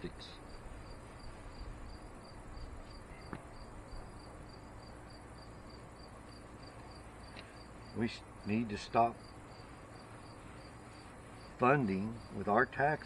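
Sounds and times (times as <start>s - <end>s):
faint ambient noise: 0.0s - 13.0s
insect chirping: 0.3s - 8.5s, 9.2s - 12.5s.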